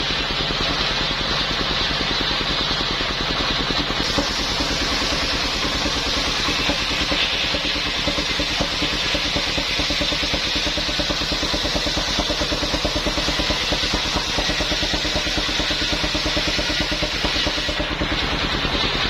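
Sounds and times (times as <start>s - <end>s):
engine-driven circular saw running: 0.0s - 19.0s.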